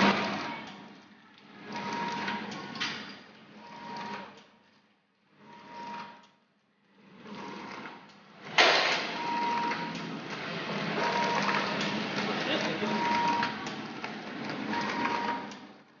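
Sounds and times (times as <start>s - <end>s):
bag-packing machine cycling: 0.0s - 16.0s.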